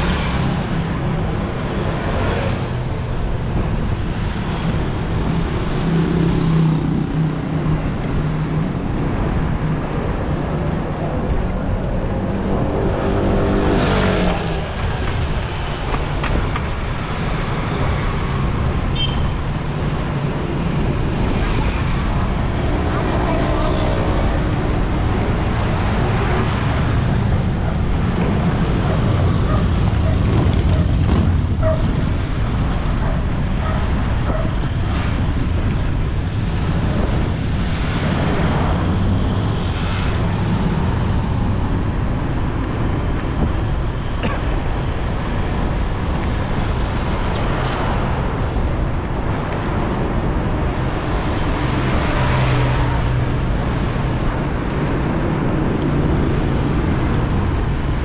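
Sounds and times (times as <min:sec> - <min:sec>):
road traffic rumble: 0:00.0 - 0:58.0
vehicles passing: 0:00.0 - 0:58.0.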